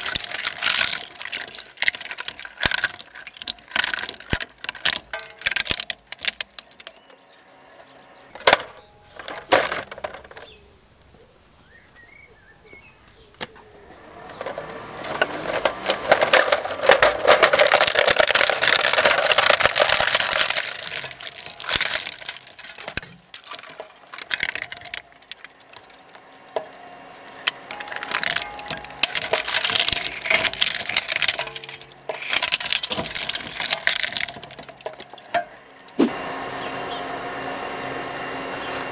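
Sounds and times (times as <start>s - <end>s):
shredder crunching plastic: 0.0s - 7.2s, 8.4s - 10.5s, 14.0s - 36.5s.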